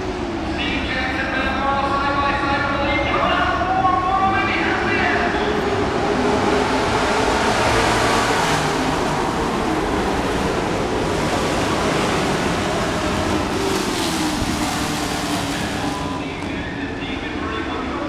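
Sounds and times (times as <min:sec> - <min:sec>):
race trucks engines roaring: 0:00.0 - 0:18.0.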